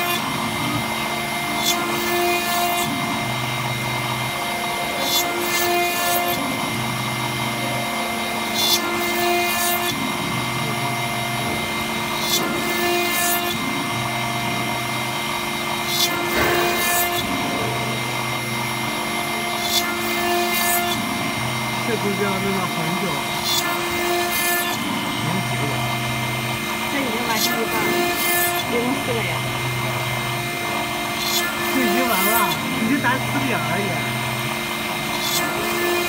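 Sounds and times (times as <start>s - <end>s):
cutter scraping brass: 0.0s - 36.0s
low machine hum: 0.0s - 36.0s
milling spindle whine: 0.0s - 36.0s.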